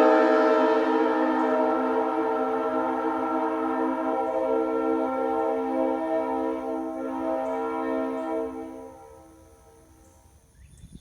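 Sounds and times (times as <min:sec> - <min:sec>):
locomotive air horn chord: 0:00.0 - 0:10.4.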